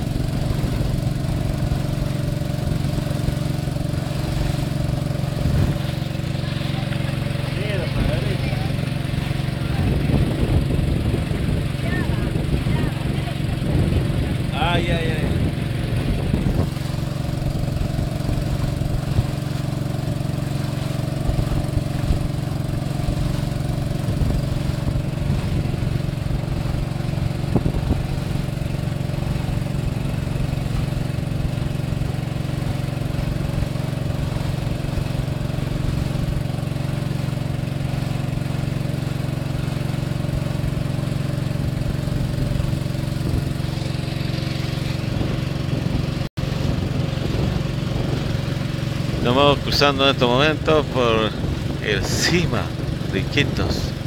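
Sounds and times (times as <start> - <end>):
boat motor droning: 0.0 - 54.0.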